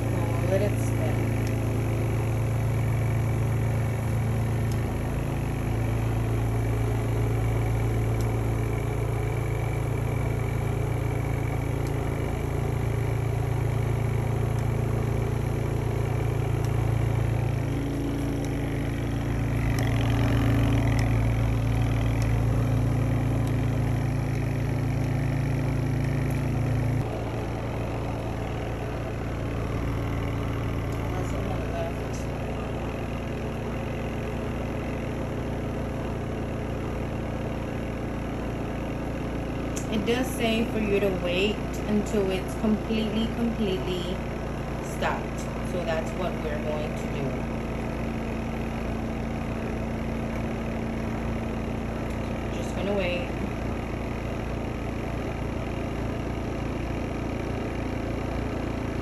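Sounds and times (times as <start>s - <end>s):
spin dryer motor humming: 0.0s - 59.0s.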